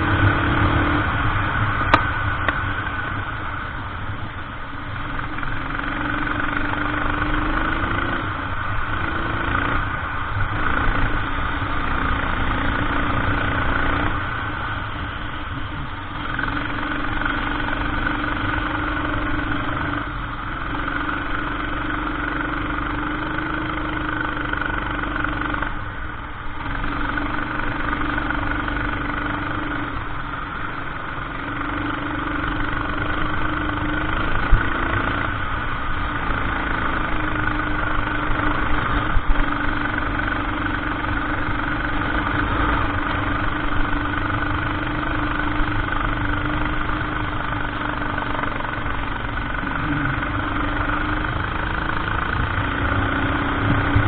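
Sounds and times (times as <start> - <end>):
kart engine revving: 0.0 - 2.0, 5.0 - 25.8, 26.6 - 54.0.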